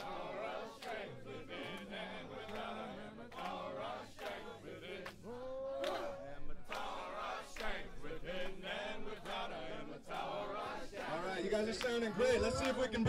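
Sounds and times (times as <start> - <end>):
crowd chanting in unison: 0.0 - 13.0.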